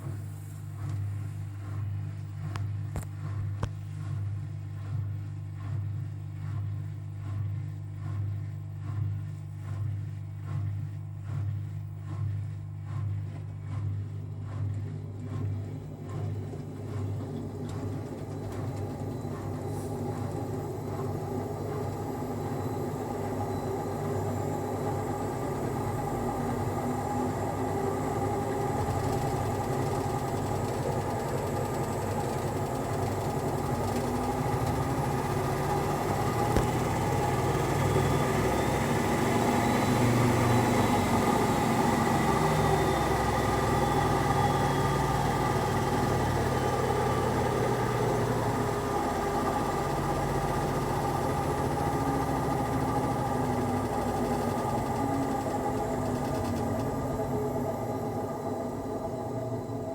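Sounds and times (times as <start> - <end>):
washing machine drum spinning: 0.0 - 59.9.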